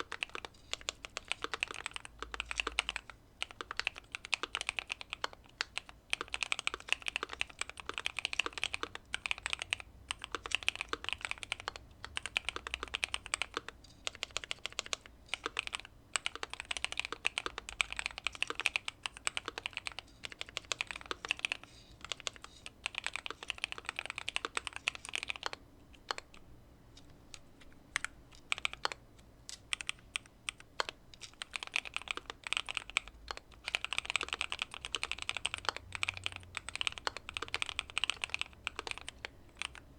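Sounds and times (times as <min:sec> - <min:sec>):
mechanical keyboard typing: 0:00.0 - 0:26.4, 0:27.9 - 0:39.9.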